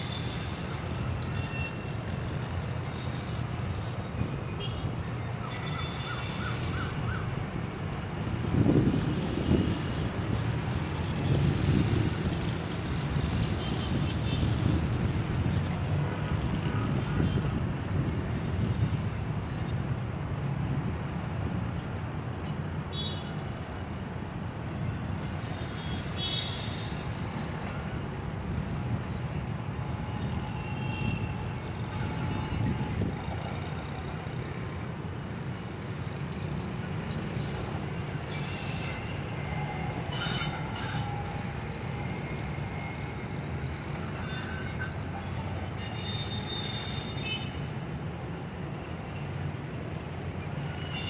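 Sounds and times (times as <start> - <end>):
distant train rumbling on tracks: 0.0 - 51.0.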